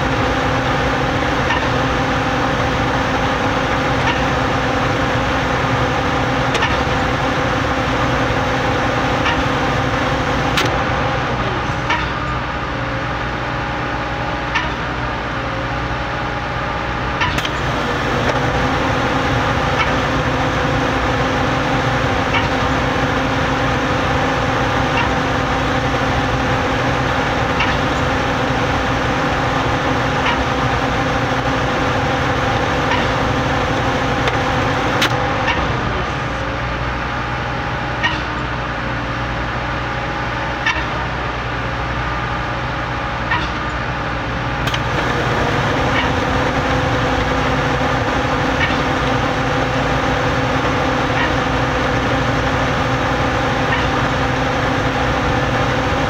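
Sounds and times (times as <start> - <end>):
concrete pump engine running: 0.0 - 56.0.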